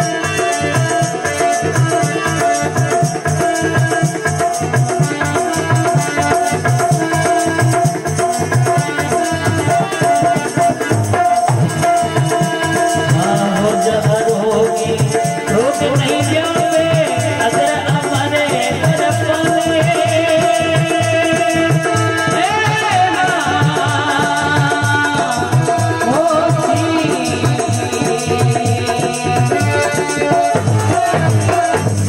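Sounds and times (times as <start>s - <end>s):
hand drum beat: 0.0s - 32.0s
harmonium melody: 0.0s - 32.0s.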